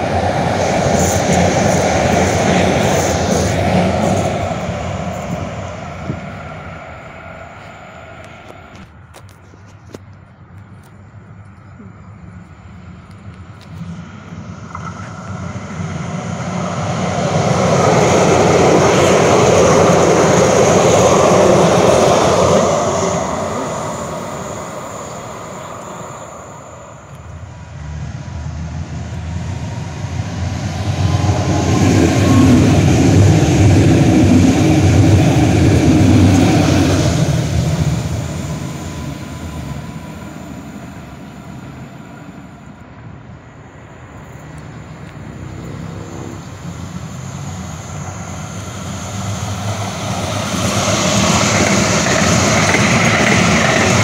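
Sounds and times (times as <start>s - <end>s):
trains passing by: 0.0s - 54.0s.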